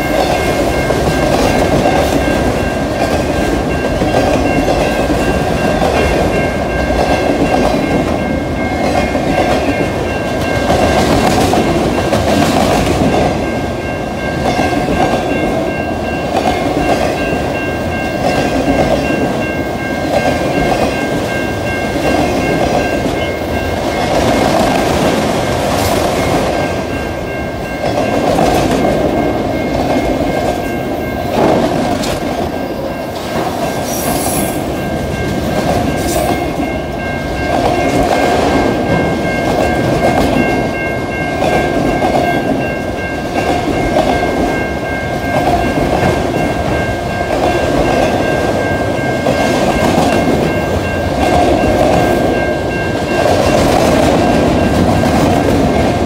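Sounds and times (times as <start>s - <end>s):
crossing signal ringing: 0.0s - 56.0s.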